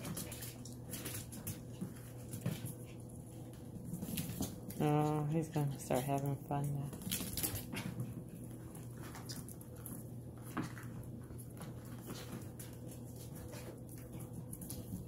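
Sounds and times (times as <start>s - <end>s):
dogs scuffling: 0.0s - 15.0s.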